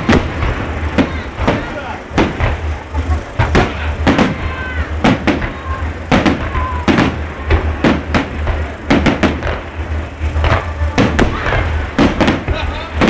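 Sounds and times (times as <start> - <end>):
fireworks bangs: 0.0 - 13.0
low rumble: 0.0 - 13.0.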